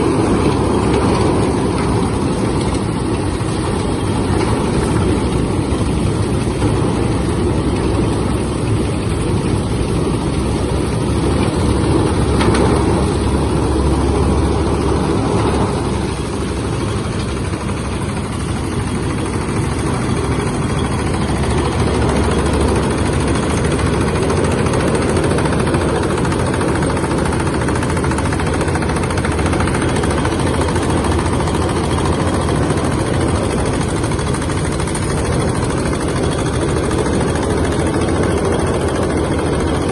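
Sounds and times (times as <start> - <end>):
machine running loudly: 0.0 - 39.9.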